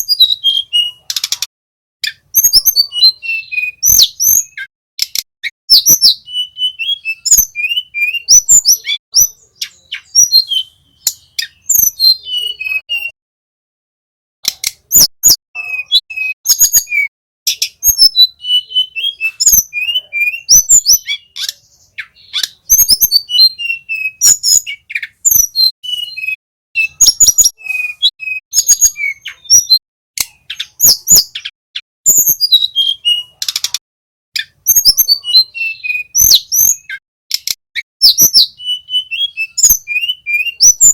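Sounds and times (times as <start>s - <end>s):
bird chirping song: 0.0s - 13.2s, 14.4s - 33.8s, 34.4s - 40.9s.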